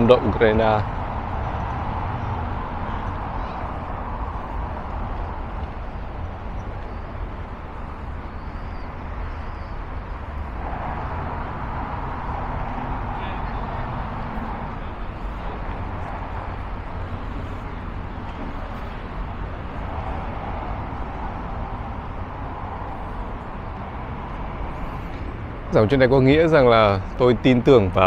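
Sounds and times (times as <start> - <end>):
city traffic: 0.0 - 28.0.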